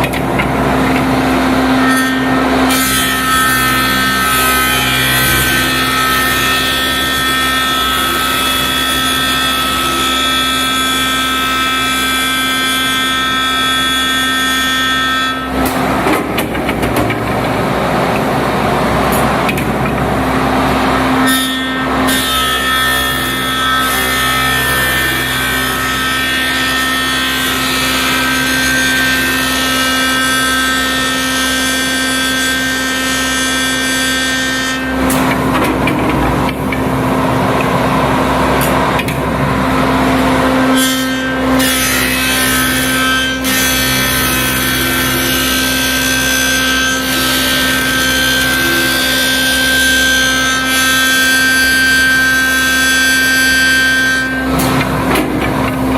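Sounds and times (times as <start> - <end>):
wood lathe humming and whining: 0.0 - 55.9.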